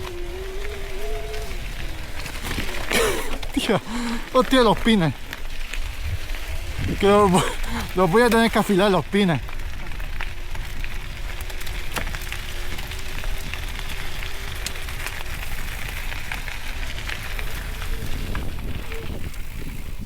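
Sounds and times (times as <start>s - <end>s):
bike clicks and rattles: 0.0s - 20.0s
bike tyres on gravel and rock: 0.0s - 20.0s.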